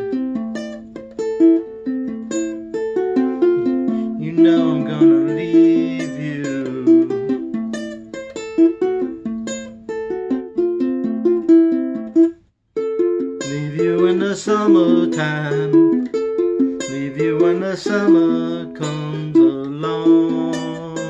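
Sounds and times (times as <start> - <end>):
ukulele fingerpicking: 0.0 - 21.0.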